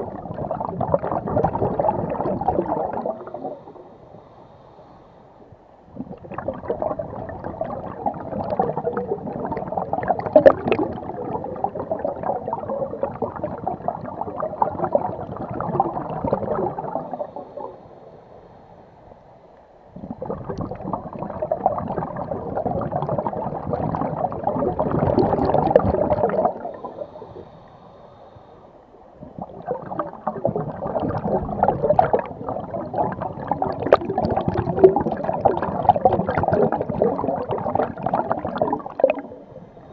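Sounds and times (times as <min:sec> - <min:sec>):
underwater exhaust bubbles gurgling: 0:00.0 - 0:04.4, 0:05.3 - 0:39.9.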